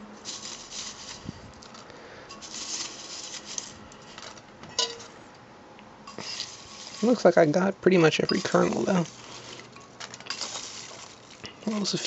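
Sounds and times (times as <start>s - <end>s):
popcorn rustling in a dish: 0.0s - 5.3s, 6.0s - 12.0s.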